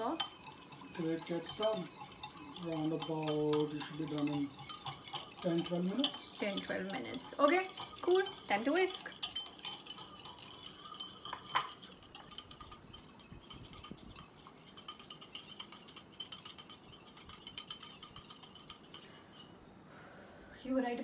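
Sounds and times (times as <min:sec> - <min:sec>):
wire whisk clinking against bowl: 0:00.0 - 0:19.5.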